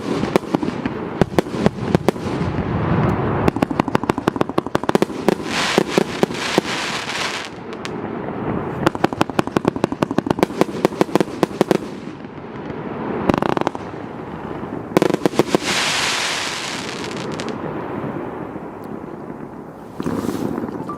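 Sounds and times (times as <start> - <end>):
fireworks shots firing: 0.0 - 8.0, 8.7 - 17.6
fireworks crackling bursts: 0.0 - 20.9.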